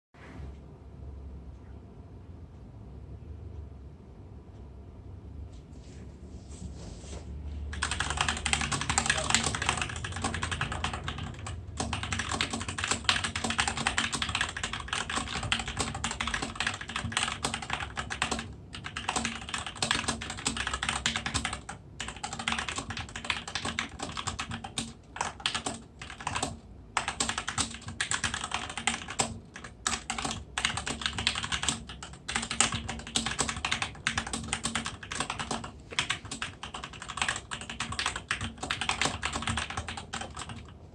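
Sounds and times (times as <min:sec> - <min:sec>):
fast mechanical keyboard typing: 0:07.7 - 0:40.9.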